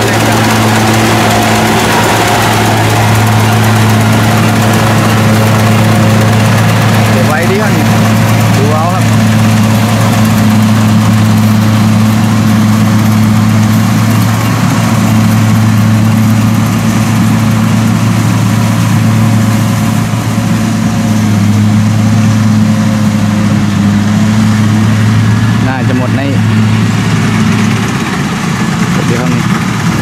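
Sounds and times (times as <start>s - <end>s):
combine harvester engine humming: 0.0s - 30.0s
threshing gear rushing noise: 0.0s - 30.0s.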